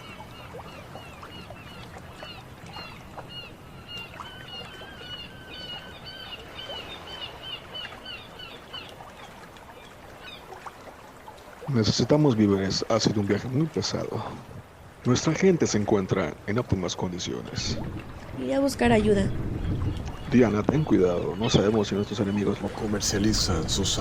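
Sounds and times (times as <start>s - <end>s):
birds chirping: 0.0s - 10.6s, 11.8s - 24.0s
low wash of water: 0.0s - 24.0s.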